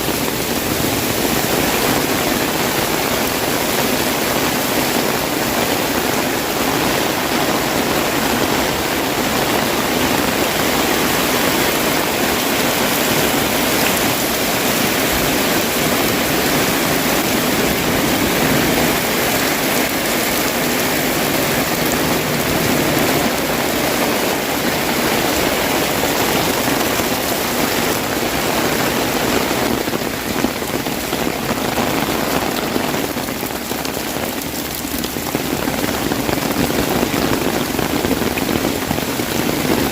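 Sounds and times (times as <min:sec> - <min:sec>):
heavy rain on umbrella: 0:00.0 - 0:39.9.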